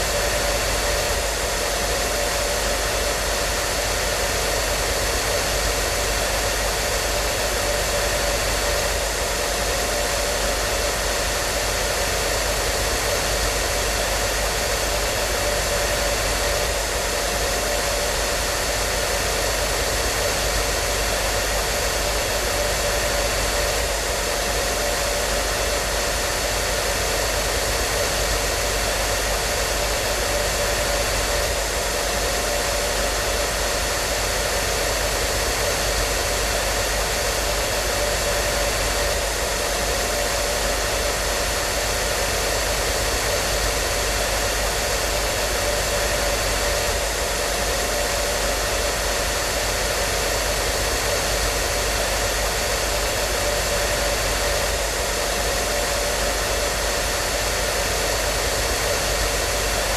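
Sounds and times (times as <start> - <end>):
electric hair dryer running: 0.0 - 59.9.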